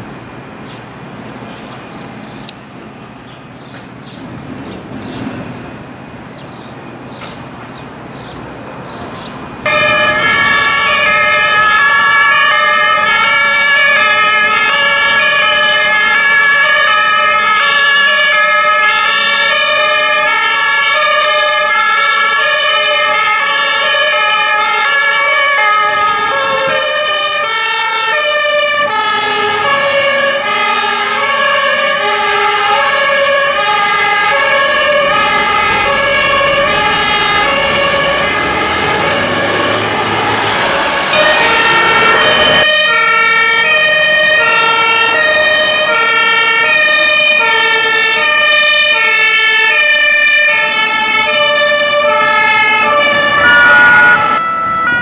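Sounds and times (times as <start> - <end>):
two-tone fire engine sirens: 9.6 - 55.0.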